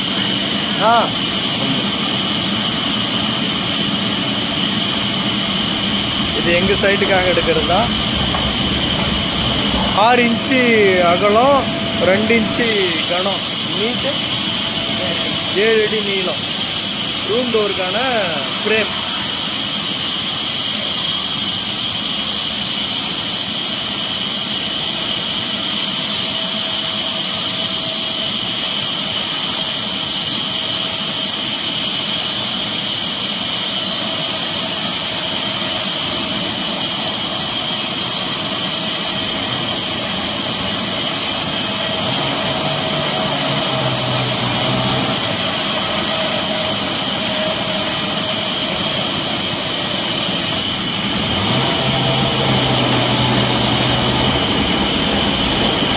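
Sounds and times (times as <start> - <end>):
band saw whining: 0.0 - 55.9.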